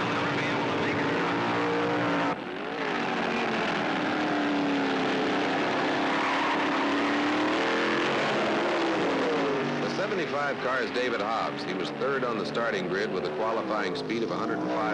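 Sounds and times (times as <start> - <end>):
race car engines passing: 0.0 - 14.9.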